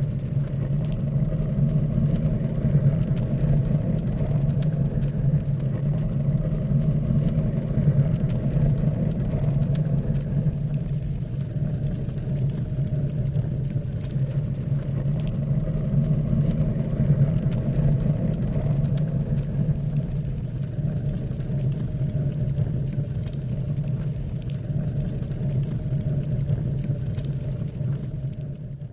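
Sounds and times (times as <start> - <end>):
faint ticks: 0.0 - 28.9.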